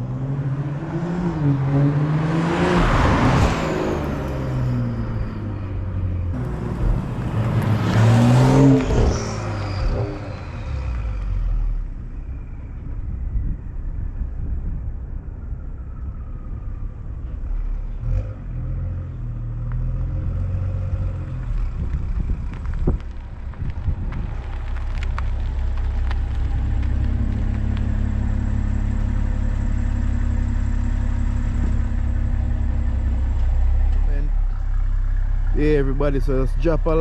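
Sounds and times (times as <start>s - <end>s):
car engine exhaust rumble: 0.0s - 37.0s.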